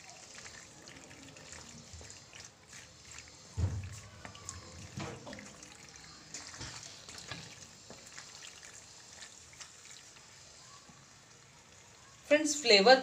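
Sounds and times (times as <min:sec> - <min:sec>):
wet squelching of sauce: 0:00.0 - 0:10.5.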